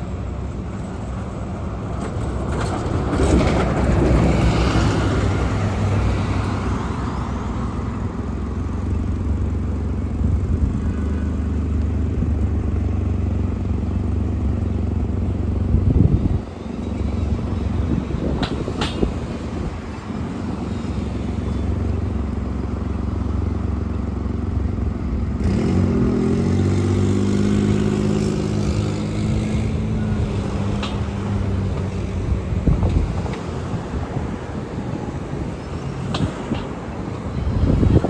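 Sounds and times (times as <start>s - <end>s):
heavy engine pulling away: 0.0s - 38.0s
street traffic passing: 0.0s - 38.0s.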